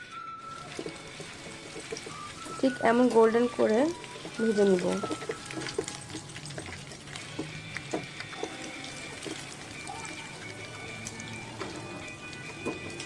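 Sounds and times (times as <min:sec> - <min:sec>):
chicken frying in hot oil: 0:00.0 - 0:13.0
oil popping and crackling: 0:00.0 - 0:13.0.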